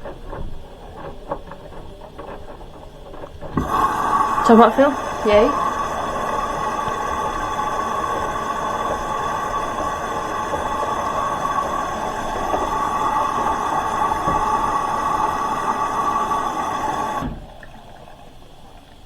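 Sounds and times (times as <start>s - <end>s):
washing machine filling with water: 0.0s - 19.0s.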